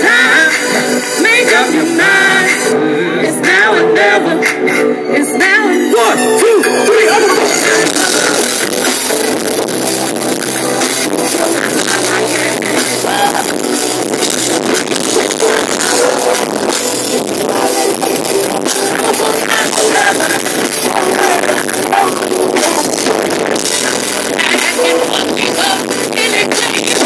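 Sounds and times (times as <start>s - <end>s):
live band music: 0.0s - 27.0s.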